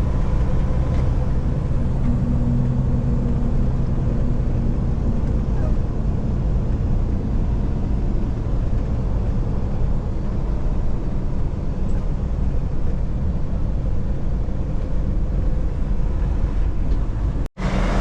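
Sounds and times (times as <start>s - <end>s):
truck engine drone from cab: 0.0s - 18.0s.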